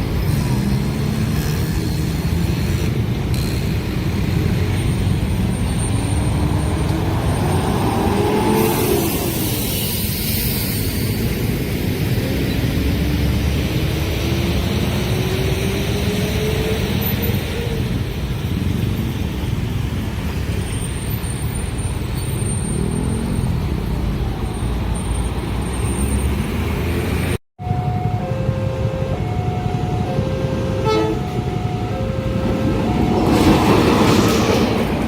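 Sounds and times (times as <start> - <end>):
train rumbling past: 0.0 - 25.6, 26.2 - 35.0.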